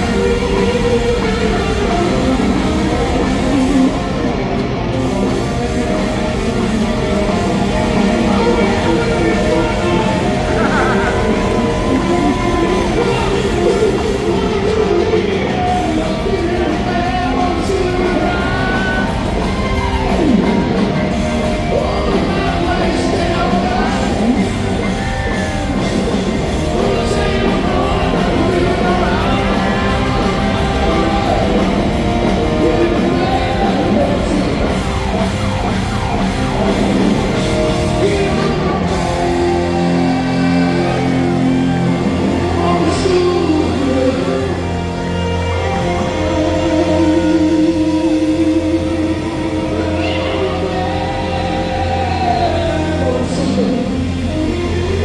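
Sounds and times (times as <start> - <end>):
electric guitar: 0.0 - 55.0
hard rock band playing: 0.0 - 55.0
person singing: 0.0 - 55.0.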